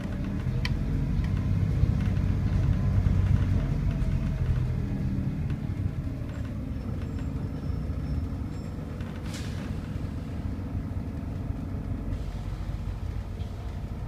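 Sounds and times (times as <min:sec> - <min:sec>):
bus engine low drone: 0:00.0 - 0:14.0.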